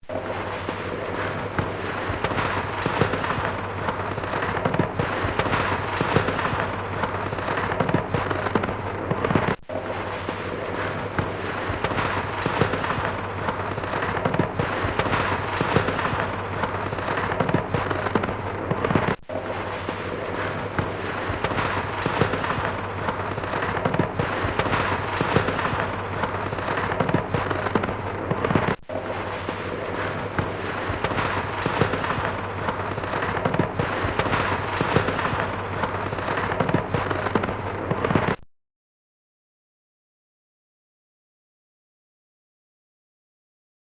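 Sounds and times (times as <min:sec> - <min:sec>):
crackling and popping: 0:00.0 - 0:38.4.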